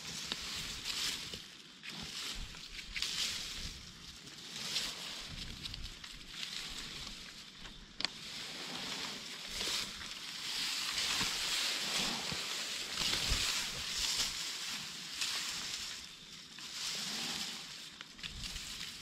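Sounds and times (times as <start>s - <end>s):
dry leaves crunching underfoot: 0.0s - 19.0s.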